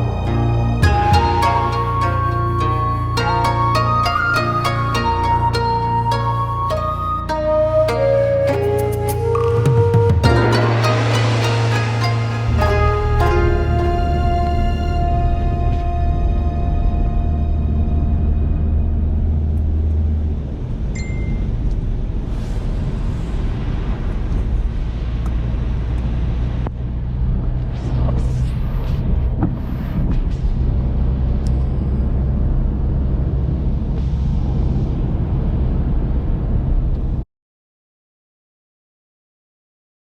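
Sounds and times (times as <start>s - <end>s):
street noise: 0.0s - 37.2s
vehicle engines rumbling: 0.0s - 37.2s.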